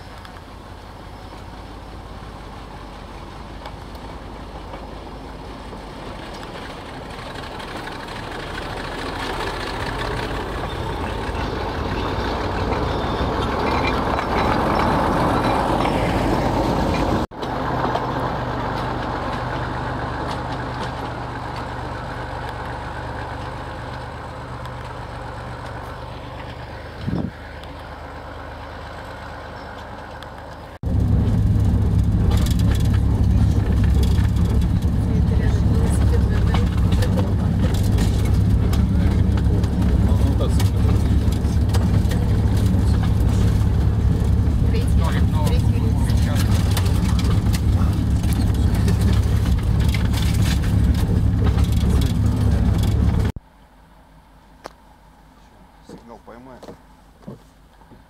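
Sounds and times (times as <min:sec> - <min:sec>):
diesel locomotive engine running: 0:00.0 - 0:54.1.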